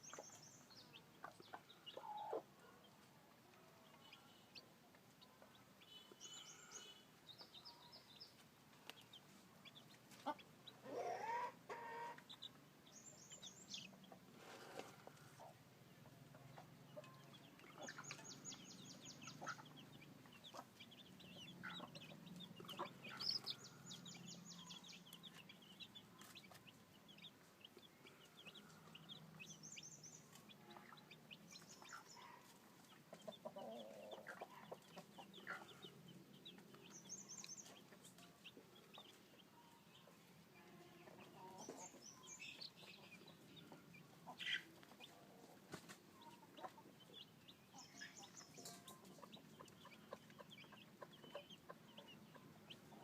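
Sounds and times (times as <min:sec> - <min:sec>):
chicks peeping: 0:00.0 - 0:53.0.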